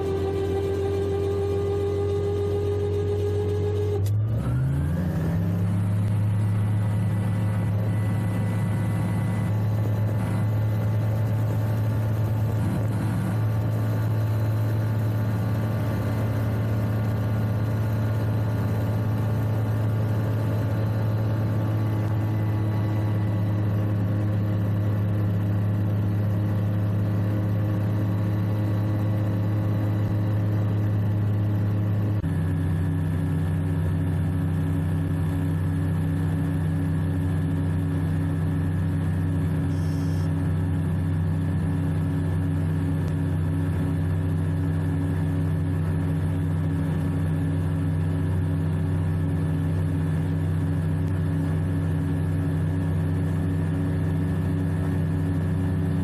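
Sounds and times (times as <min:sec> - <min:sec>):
aircraft engine and propeller: 0:00.0 - 0:56.0
steady high whine: 0:00.0 - 0:56.0.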